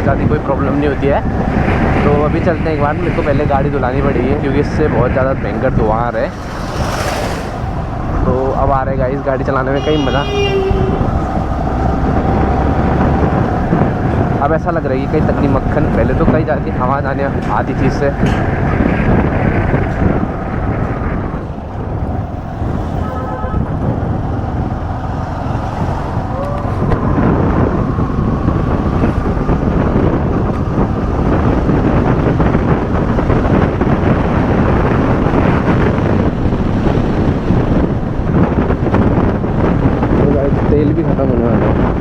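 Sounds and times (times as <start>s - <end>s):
wind on microphone: 0.0s - 42.0s.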